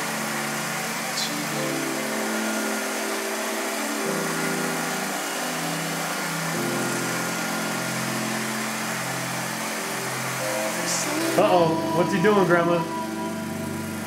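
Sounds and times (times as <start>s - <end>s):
robot vacuum motor hum: 0.0s - 14.0s.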